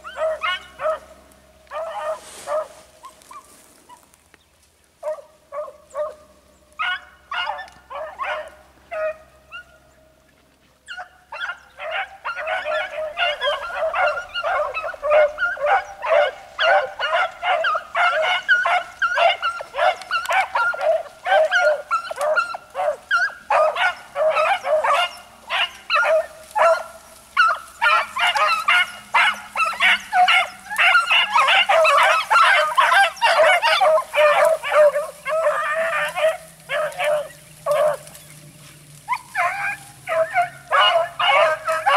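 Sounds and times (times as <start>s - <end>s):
hounds baying and yelping: 0.0s - 4.1s, 5.0s - 41.9s.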